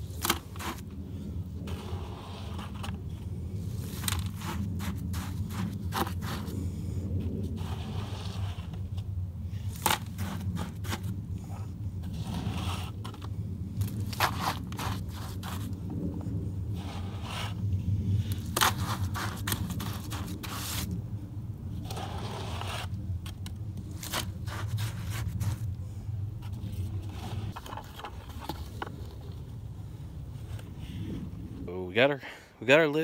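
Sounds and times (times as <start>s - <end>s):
concrete mix scraping and crunching: 0.0s - 6.8s, 7.4s - 15.9s, 16.6s - 21.0s, 21.8s - 25.8s, 26.4s - 29.5s
steady low rumble: 0.0s - 33.0s.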